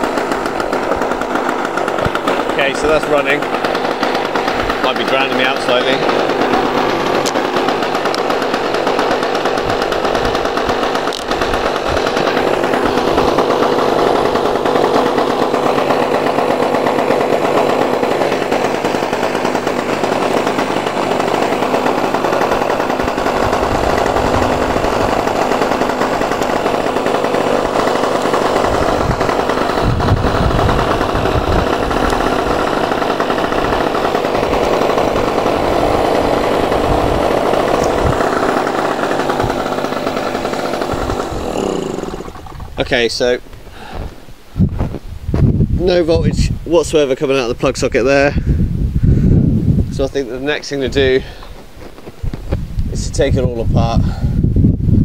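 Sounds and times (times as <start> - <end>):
generator engine running: 0.0 - 54.6.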